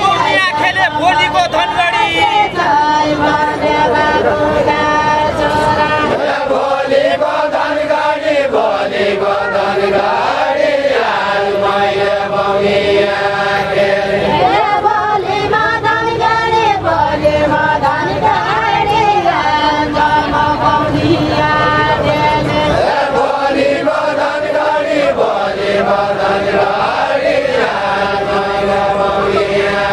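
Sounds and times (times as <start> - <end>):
men singing unaccompanied: 0.0 - 29.9.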